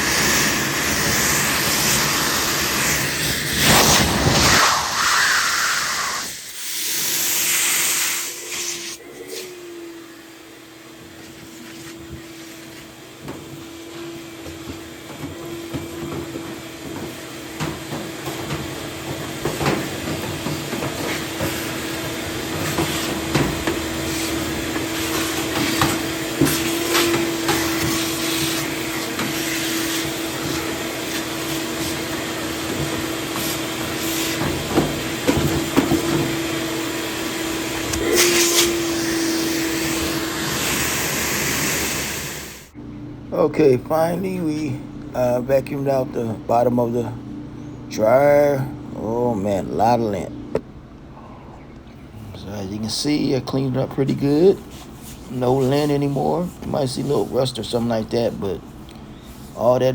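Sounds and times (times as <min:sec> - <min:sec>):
vacuum cleaner running: 0:00.0 - 0:50.6, 0:52.4 - 0:59.9.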